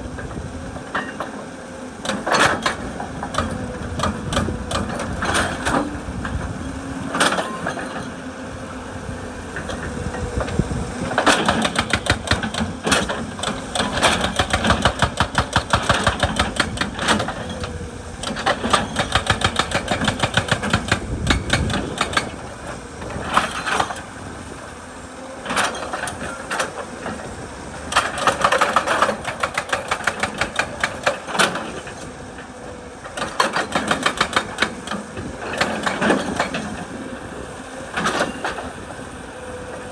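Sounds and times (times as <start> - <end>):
excavator engine running: 0.0 - 39.9
hydraulic breaker hammering rock: 0.1 - 8.2, 9.5 - 39.8.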